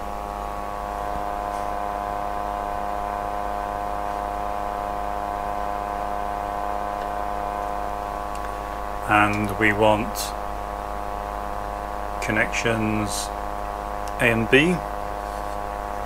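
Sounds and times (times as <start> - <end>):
cooling fan humming: 0.0 - 16.0.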